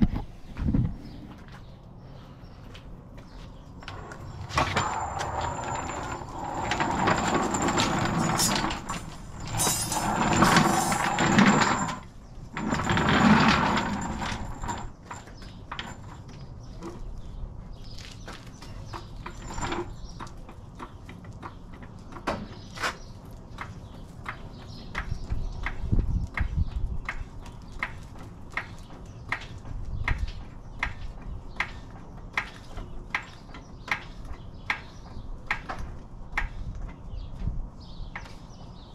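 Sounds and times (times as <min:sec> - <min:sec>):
floor jack rolling on concrete: 0:03.8 - 0:37.2.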